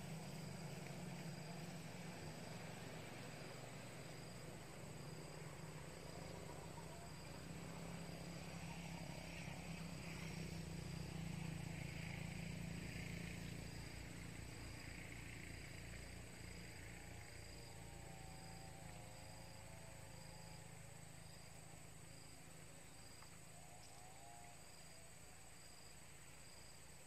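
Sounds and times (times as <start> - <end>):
insects buzzing and chirping: 0.0 - 27.0.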